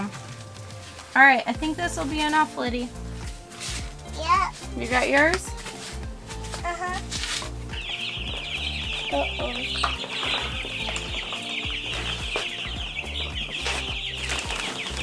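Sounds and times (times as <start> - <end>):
baby chicks peeping: 1.5 - 15.0.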